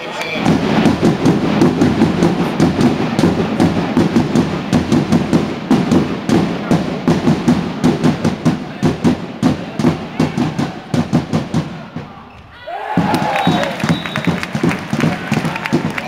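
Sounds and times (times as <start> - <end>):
crowd voices: 0.0 - 16.0
fans drumming a fast beat: 0.0 - 16.0.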